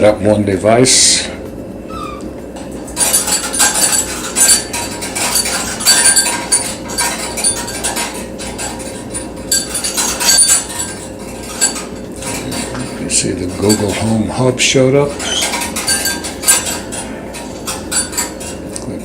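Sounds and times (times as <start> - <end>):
dishes and cutlery clattering: 2.6 - 19.0.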